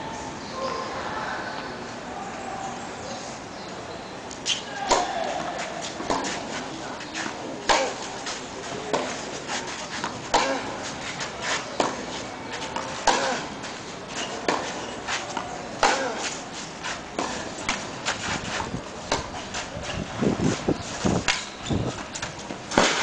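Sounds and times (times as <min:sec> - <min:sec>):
racket hitting tennis ball: 0:04.5 - 0:23.0.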